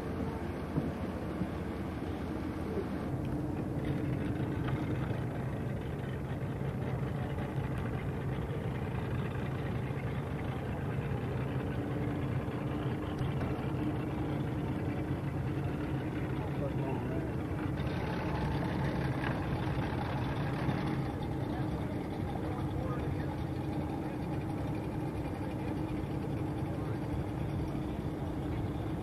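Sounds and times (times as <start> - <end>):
boat engine running: 0.0 - 29.0
water noise: 0.0 - 29.0
wind: 0.0 - 29.0.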